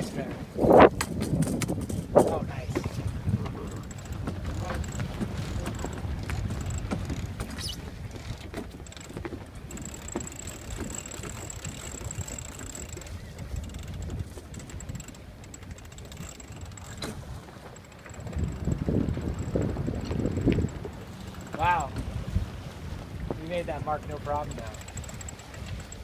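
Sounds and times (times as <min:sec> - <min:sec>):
boat clicks: 0:00.0 - 0:26.0
water noise: 0:00.0 - 0:26.0
wind buffeting microphone: 0:00.0 - 0:26.0.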